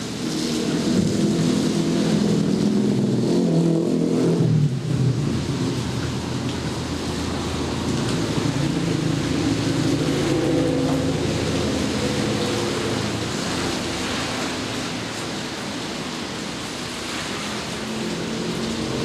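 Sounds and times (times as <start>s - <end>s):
steady rain: 0.0s - 19.0s
vehicle engine hum passing: 0.0s - 19.0s.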